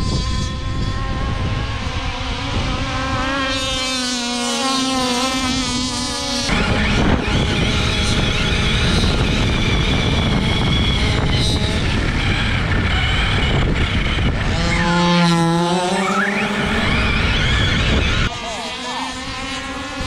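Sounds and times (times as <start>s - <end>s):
high motor whine: 0.0s - 20.0s
rc cars running over rough ground: 0.0s - 20.0s.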